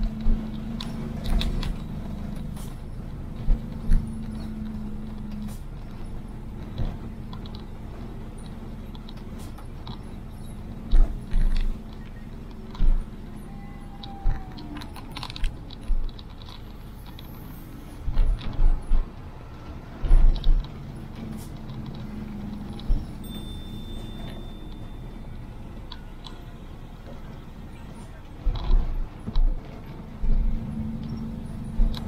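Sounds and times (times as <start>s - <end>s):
vehicle engine and road hum: 0.0s - 32.0s.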